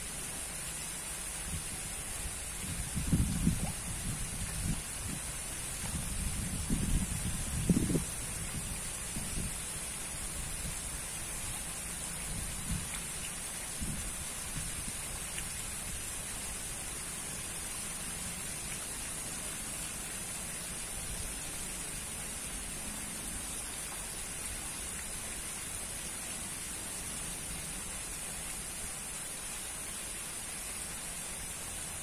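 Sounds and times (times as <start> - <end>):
water jets splashing into pond: 0.0 - 32.0.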